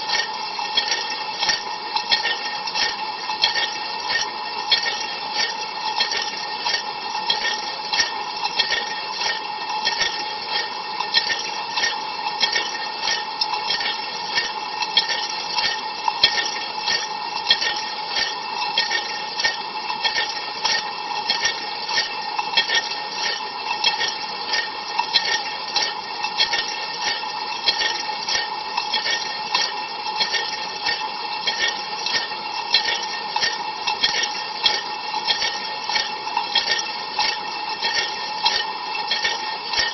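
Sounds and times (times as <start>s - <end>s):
dishwasher hum: 0.0s - 39.9s.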